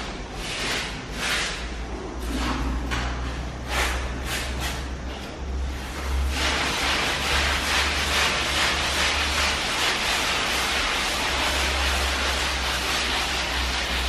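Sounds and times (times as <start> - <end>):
grinder grinding wall: 0.0 - 14.0.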